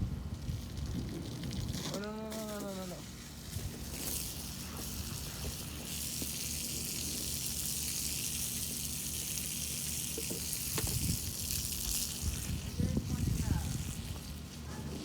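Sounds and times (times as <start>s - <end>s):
garden hose spraying water: 0.0s - 15.0s.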